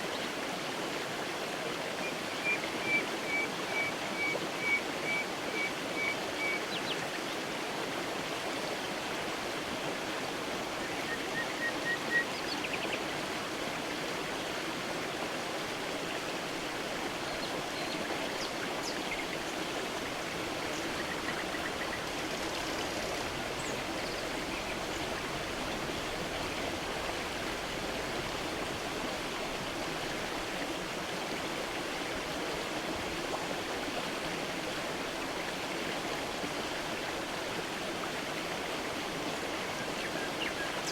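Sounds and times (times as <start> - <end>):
creek water running: 0.0 - 40.9.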